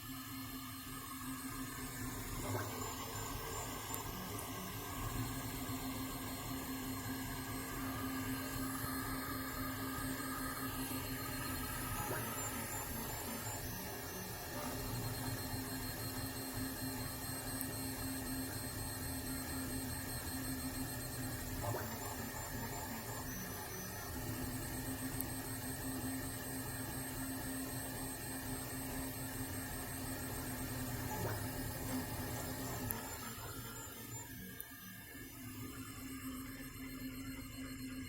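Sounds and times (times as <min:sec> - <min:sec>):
noisy cooling fans: 0:00.0 - 0:38.0.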